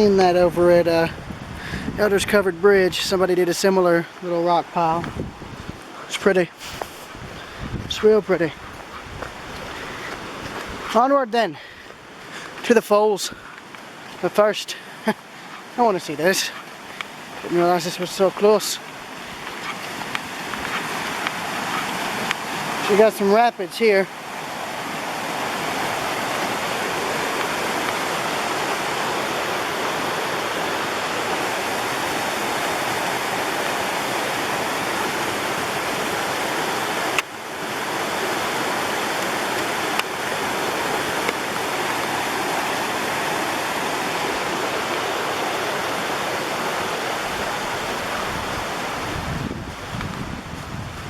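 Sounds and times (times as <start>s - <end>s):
water rushing over rapids: 0.0s - 51.0s.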